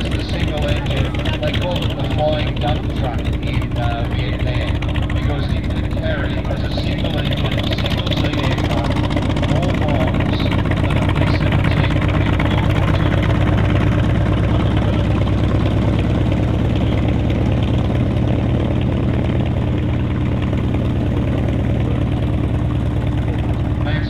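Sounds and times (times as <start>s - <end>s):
radial aircraft engine running: 0.0s - 24.0s.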